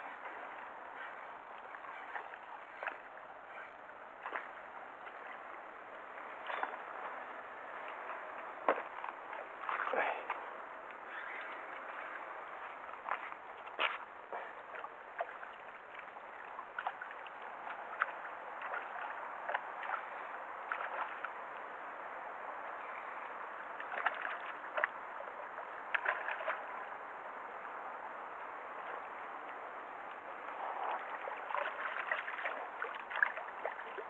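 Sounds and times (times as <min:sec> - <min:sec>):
small splashes and ticks: 0:00.0 - 0:34.0
water sloshing and gurgling: 0:00.0 - 0:34.0.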